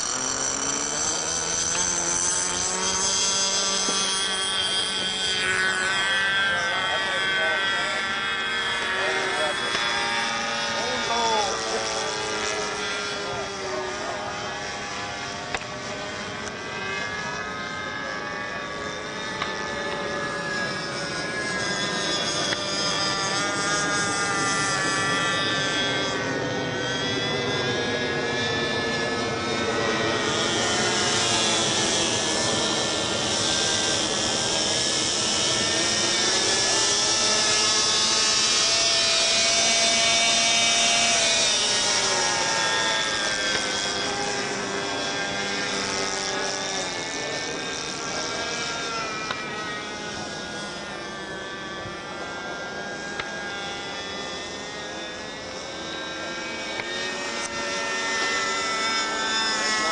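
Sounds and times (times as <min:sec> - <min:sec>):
model airplane engine buzzing: 0:00.0 - 0:59.9.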